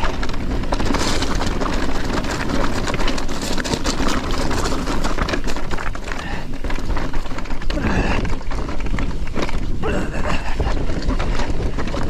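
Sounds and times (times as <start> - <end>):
bike rattling over rocks: 0.0 - 12.0.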